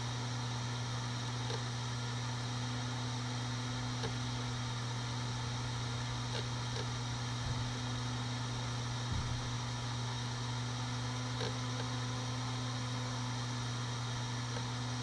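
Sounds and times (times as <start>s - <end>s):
hard drive spinning hum: 0.0s - 15.0s.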